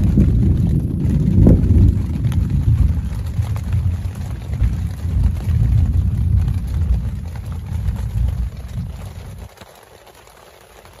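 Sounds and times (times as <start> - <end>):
heavy rain drumming on a tent: 0.0 - 11.0.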